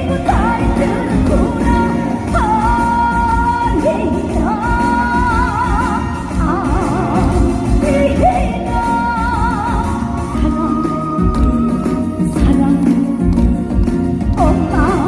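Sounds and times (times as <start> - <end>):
band backing: 0.0 - 15.0
woman singing: 0.0 - 15.0.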